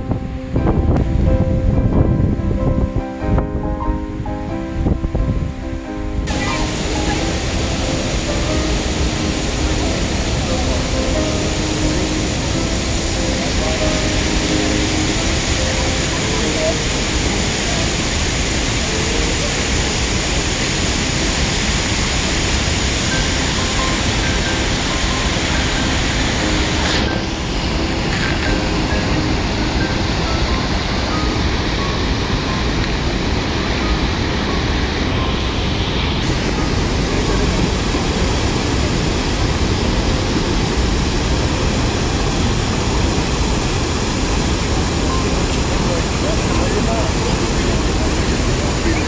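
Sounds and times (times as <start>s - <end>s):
whitewater rushing over rocks: 6.0s - 49.0s.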